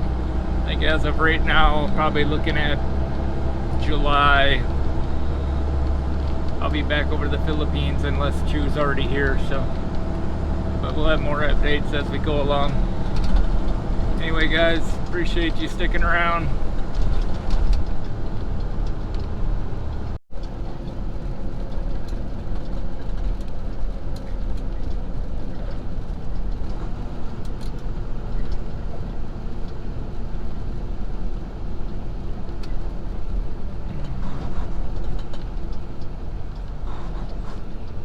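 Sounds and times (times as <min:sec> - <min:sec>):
truck engine and road rumble: 0:00.0 - 0:38.0.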